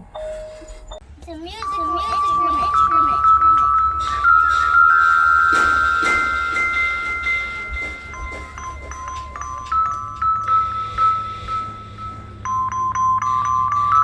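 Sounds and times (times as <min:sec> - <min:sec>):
metal chimes being struck: 0:01.0 - 0:14.0.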